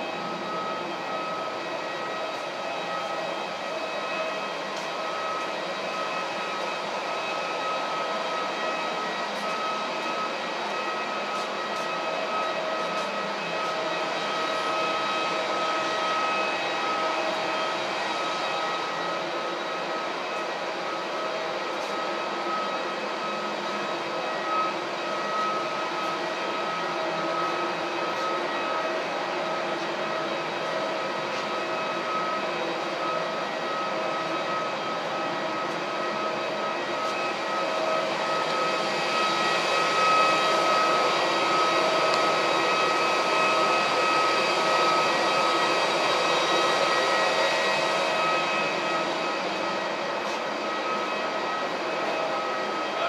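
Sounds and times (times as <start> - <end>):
jet engines whining: 0.0 - 53.0.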